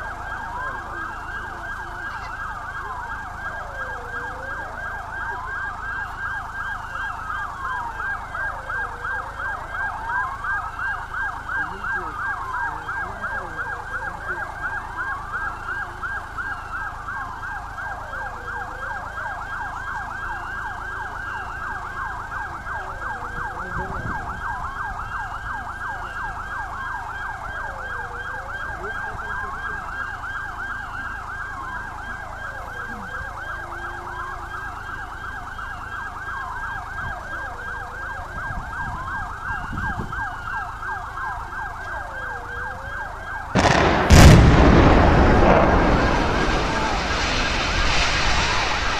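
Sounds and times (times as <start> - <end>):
siren wailing: 0.0 - 48.9.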